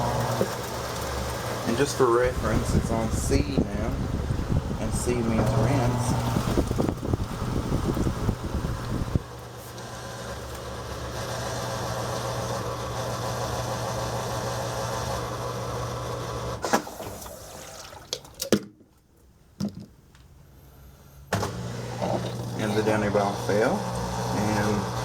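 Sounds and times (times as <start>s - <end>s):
washing machine spinning: 0.0s - 18.2s, 21.5s - 25.0s.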